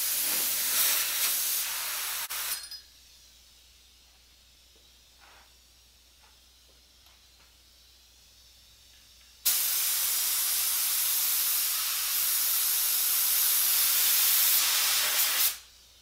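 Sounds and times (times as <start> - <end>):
spray gun hissing: 0.0 - 4.0, 4.7 - 16.0.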